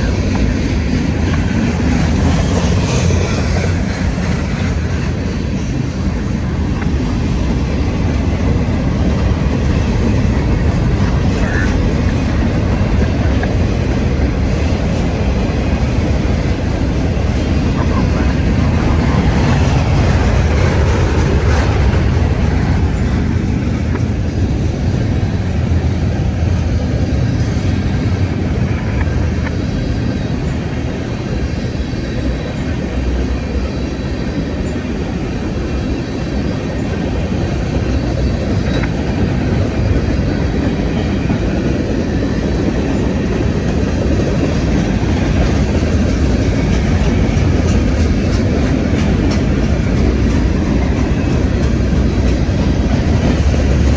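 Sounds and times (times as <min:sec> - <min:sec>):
freight train wheels rumbling on rails: 0:00.0 - 0:53.9.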